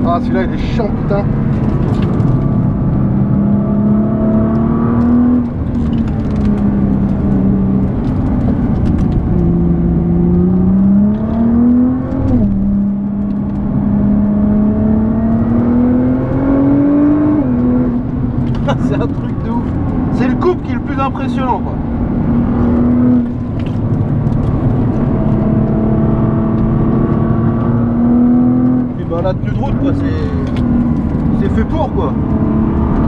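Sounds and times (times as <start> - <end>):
car engine revving: 0.0 - 33.0
road and tyre noise: 0.0 - 33.0.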